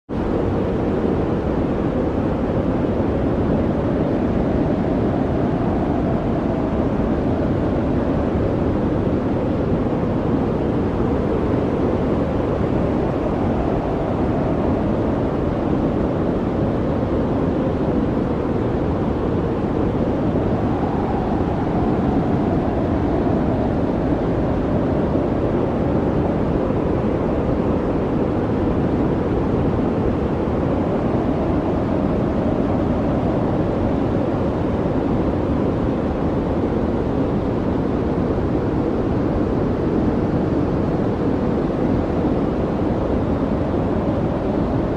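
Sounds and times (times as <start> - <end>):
strong wind howling: 0.1 - 44.9.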